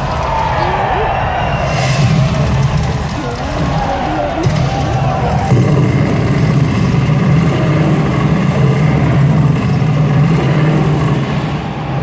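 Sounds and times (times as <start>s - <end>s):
low engine-like rumble: 2.0s - 12.0s.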